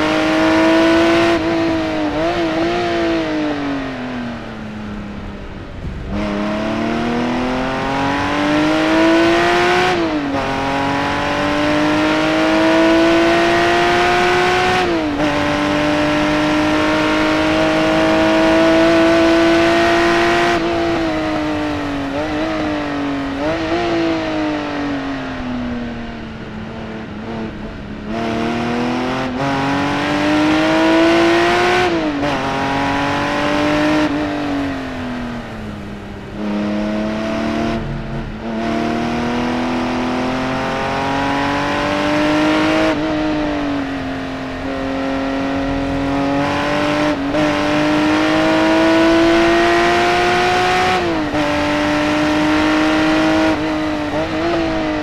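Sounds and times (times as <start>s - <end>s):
race car engine revving: 0.0s - 4.6s, 5.7s - 25.4s, 27.2s - 55.0s.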